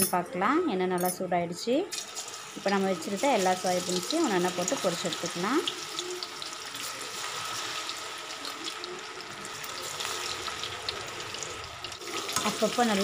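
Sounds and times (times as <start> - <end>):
food deep-frying in oil: 1.9 - 13.0.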